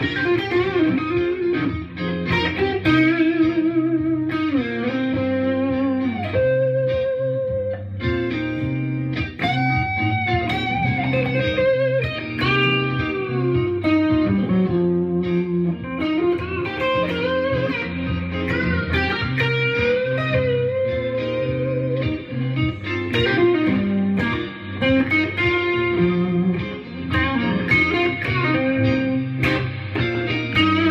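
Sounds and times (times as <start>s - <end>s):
backing chord loop: 0.0s - 30.9s
electric guitar blues lead: 0.0s - 30.9s.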